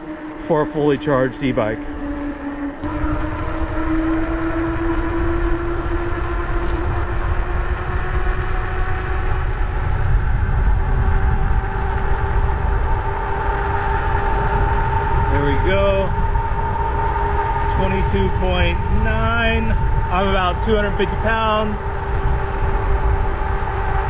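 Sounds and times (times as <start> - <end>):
electric hub motor whining: 0.0 - 24.0
wind and tyres rumbling: 0.0 - 24.0.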